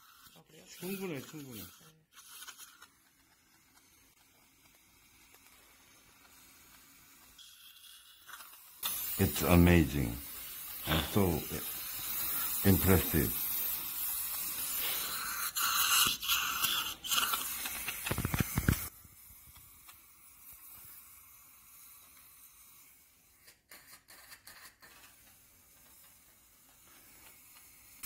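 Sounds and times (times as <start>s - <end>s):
dental suction hissing and slurping: 0.0s - 28.0s.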